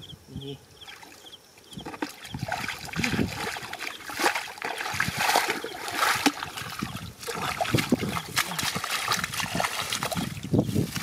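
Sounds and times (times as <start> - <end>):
splashing through muddy water: 1.8 - 11.0.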